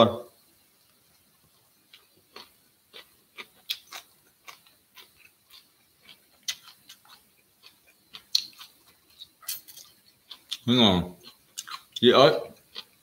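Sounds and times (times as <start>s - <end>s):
person chewing crunchy food: 1.5s - 13.0s.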